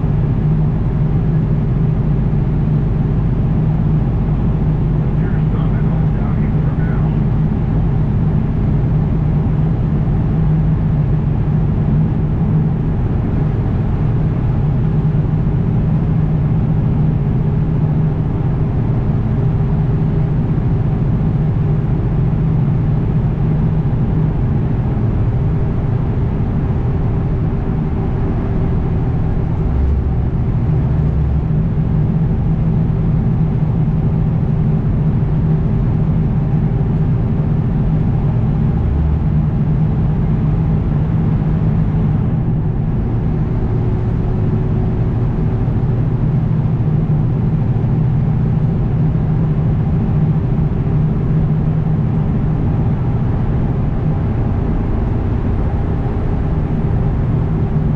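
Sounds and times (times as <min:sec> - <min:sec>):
road noise: 0:00.0 - 0:21.0, 0:23.3 - 0:57.9
truck diesel engine drone: 0:00.0 - 0:57.9.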